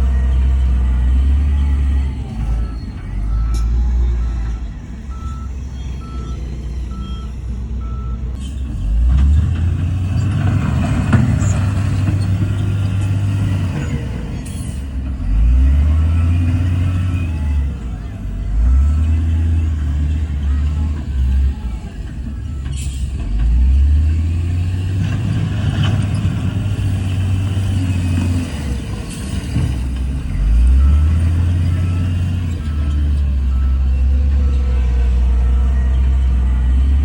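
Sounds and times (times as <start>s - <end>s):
reversing alarm beeping: 0.0s - 8.6s, 11.2s - 37.0s
diesel machinery rumbling: 0.0s - 37.0s.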